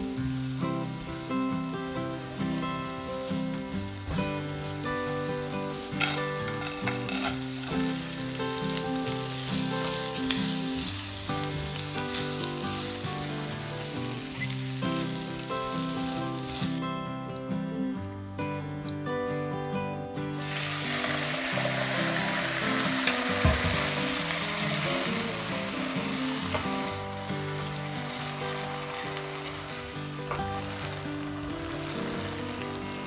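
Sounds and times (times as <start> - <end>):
rice and onion sizzling in oil: 0.0 - 17.5, 20.2 - 33.0
background music: 0.0 - 33.0.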